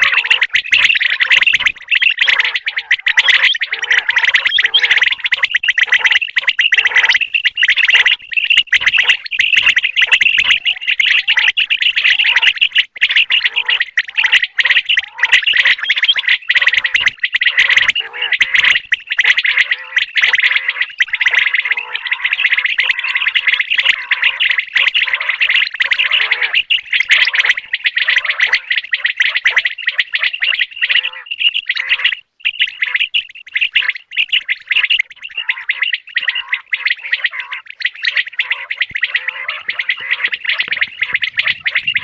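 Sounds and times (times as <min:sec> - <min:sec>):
quail chirping and trilling: 0:00.0 - 0:42.0.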